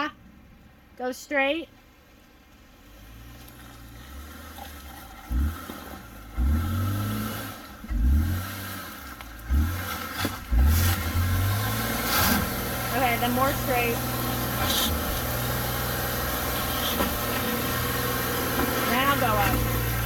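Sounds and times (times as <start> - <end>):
car engine revving under load: 2.5 - 20.0.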